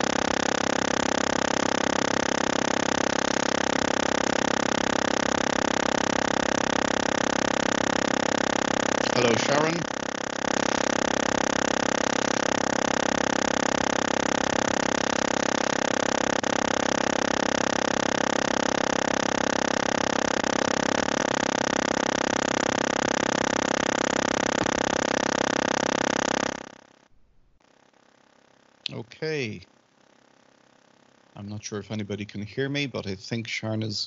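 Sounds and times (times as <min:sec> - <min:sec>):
loud electronic buzz: 0:00.0 - 0:33.4.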